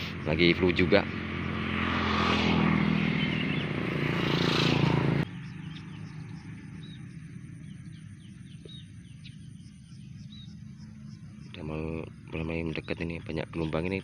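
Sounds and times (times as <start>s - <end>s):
motor engine running: 0.0s - 12.4s
small birds chirping: 0.0s - 14.0s.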